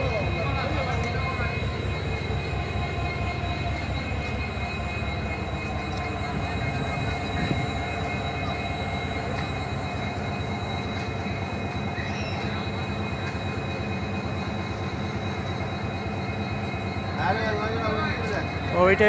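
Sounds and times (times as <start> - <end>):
diesel locomotive engine running: 0.0 - 19.0.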